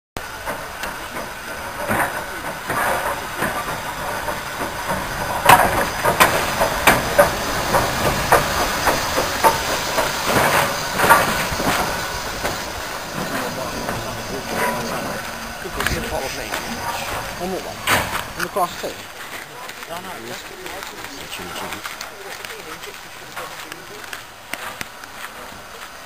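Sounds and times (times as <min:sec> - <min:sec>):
steam engine exhaust beats: 0:00.2 - 0:26.0
steam hissing: 0:00.2 - 0:26.0.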